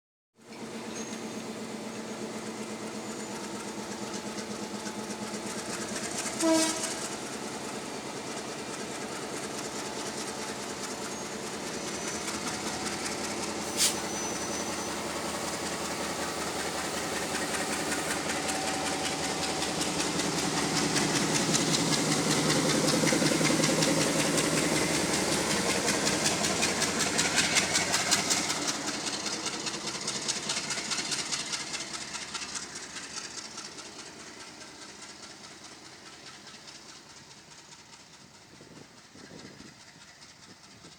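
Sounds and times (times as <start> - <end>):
diesel locomotive engine running: 0.4 - 40.9.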